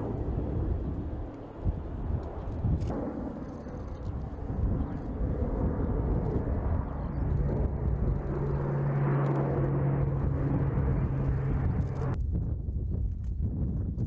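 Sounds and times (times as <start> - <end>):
outdoor noise: 0.0 - 14.0
turboprop plane overhead: 0.0 - 14.0.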